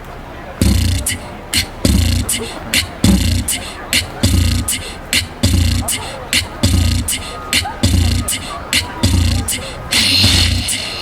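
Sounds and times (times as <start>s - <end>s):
beatboxed drum beat: 0.6s - 11.0s.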